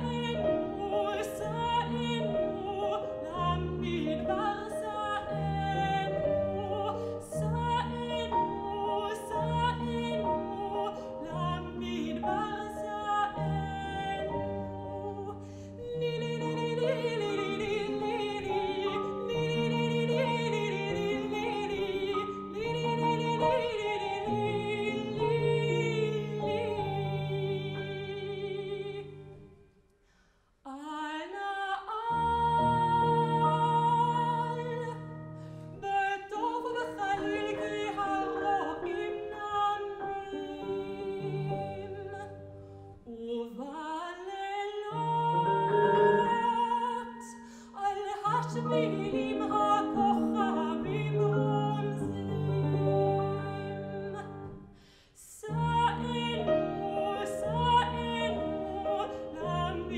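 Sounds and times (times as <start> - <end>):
soprano singing with vibrato: 0.0 - 29.7, 30.7 - 59.9
grand piano: 0.0 - 29.8, 31.1 - 59.9.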